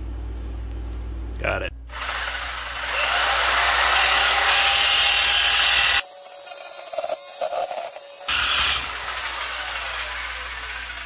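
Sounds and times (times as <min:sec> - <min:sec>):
power tool cutting trim: 0:01.9 - 0:11.0.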